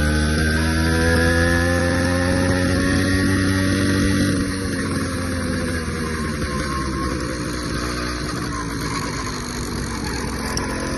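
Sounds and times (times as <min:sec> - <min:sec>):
small bicycle engine running: 0:00.0 - 0:10.9.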